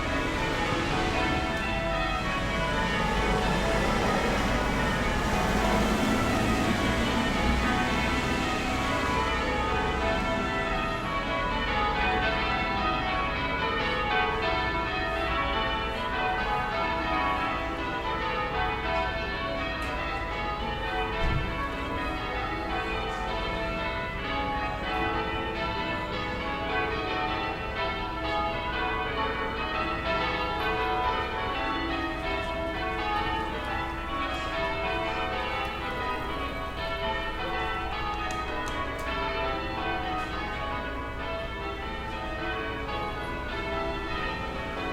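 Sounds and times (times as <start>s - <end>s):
distant church bells ringing: 0.0s - 44.9s
low town rumble: 0.0s - 44.9s.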